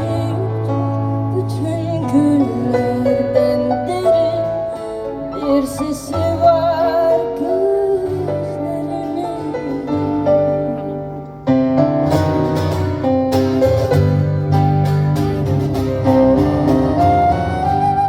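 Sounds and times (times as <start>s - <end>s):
guitar: 0.0s - 18.0s
keyboard: 0.0s - 18.0s
live band playing: 0.0s - 18.0s.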